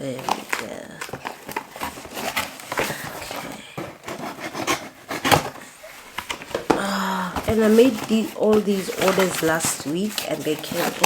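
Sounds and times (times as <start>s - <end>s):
cardboard packaging rustling: 0.0s - 11.0s.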